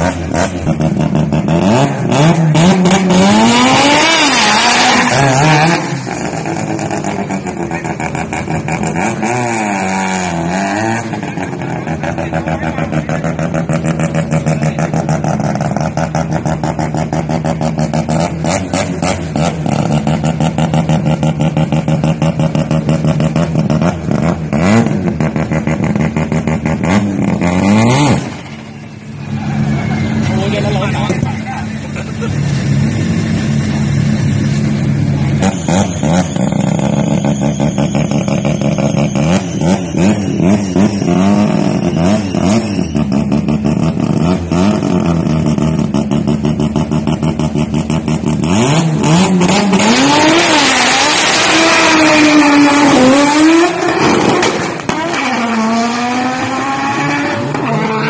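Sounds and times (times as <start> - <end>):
rotary engine revving and idling: 0.0 - 58.0.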